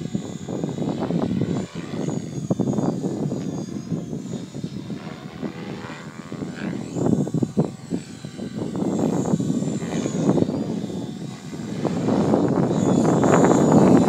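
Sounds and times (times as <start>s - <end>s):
helicopter rotor blades rushing: 0.0s - 14.0s
high motor whine: 0.0s - 14.0s.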